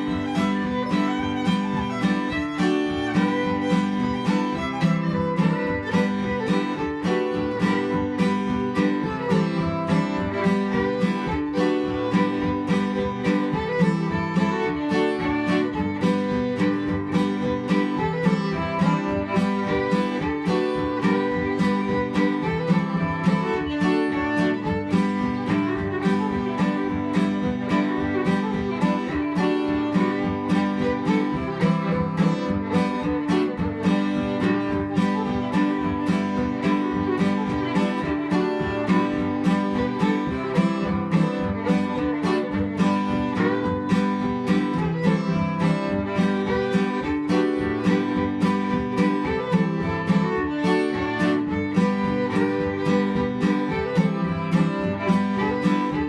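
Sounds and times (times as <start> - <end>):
fiddle melody: 0.0 - 56.0
strummed acoustic guitar: 0.0 - 56.0.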